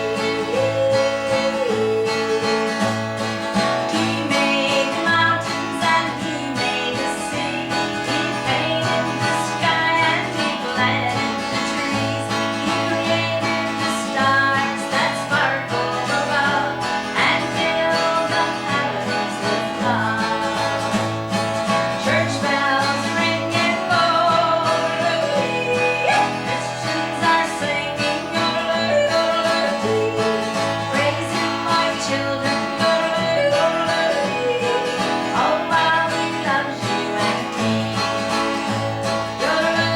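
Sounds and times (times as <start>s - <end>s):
acoustic guitar: 0.0s - 39.9s
bending melody line: 0.0s - 39.9s.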